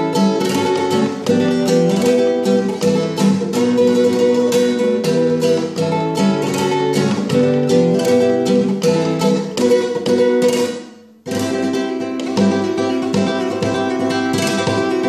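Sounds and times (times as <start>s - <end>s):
flamenco guitar strumming: 0.0s - 15.0s.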